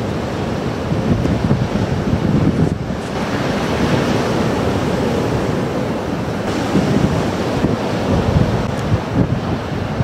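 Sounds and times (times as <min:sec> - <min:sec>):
storm surf breaking: 0:00.0 - 0:10.0
wind buffeting microphone: 0:00.0 - 0:10.0.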